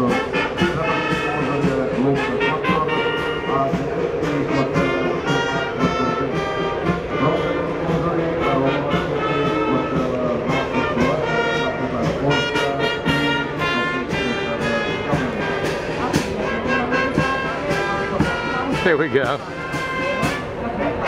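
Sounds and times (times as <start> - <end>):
brass band music: 0.0 - 21.0.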